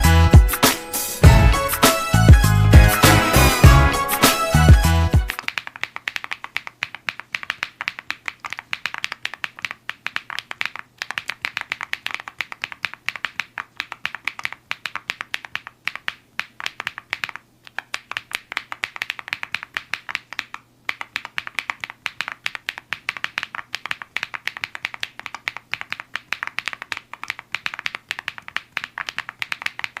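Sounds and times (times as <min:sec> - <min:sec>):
mechanical keyboard typing: 0:05.3 - 0:30.0.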